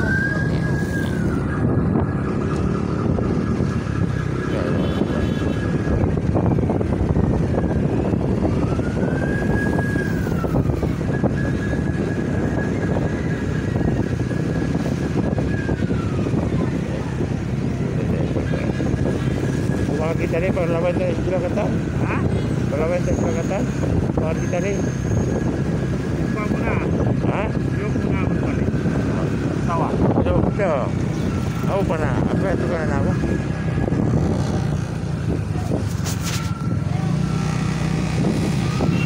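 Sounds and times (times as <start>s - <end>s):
motorcycle engines: 0.0s - 39.0s
siren wailing: 0.0s - 39.0s.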